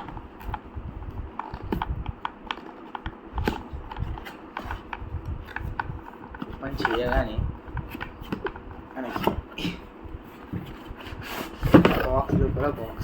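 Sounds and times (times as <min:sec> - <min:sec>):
cardboard packaging clicks and scrapes: 0:01.4 - 0:13.0.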